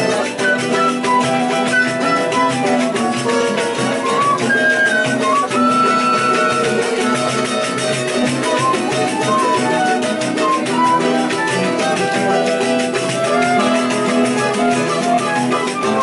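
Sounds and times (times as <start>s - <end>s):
accordion: 0.0s - 16.0s
flute melody: 0.0s - 16.0s
strummed guitars: 0.0s - 16.0s.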